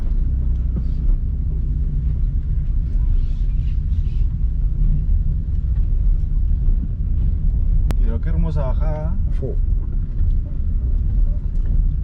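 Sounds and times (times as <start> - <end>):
car rumbling downhill: 0.0 - 12.0.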